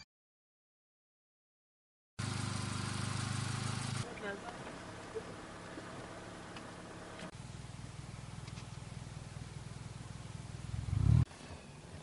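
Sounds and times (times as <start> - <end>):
car engine rumbling: 2.2 - 12.0.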